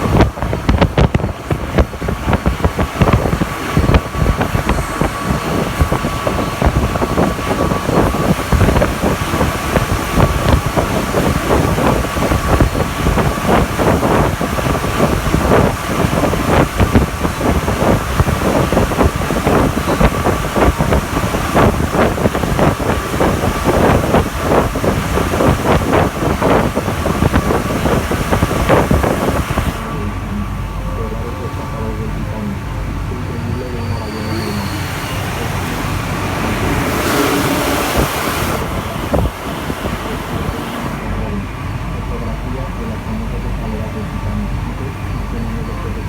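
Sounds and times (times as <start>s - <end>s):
steady high whine: 0.0s - 46.0s
train rolling noise: 0.0s - 46.0s.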